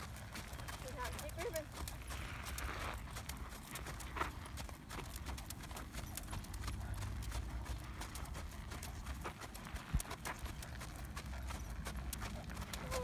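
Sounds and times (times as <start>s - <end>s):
horse hoofbeats on dirt: 0.0s - 13.0s.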